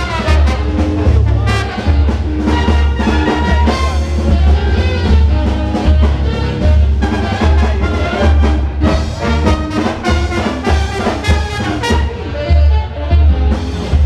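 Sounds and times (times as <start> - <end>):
brass band with drums: 0.0 - 14.0.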